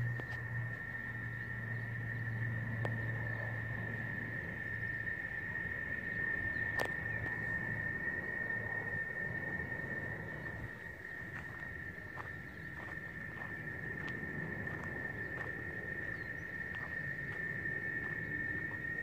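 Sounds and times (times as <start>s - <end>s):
distant aircraft drone: 0.0s - 19.0s
steady high-pitched whine: 0.0s - 19.0s.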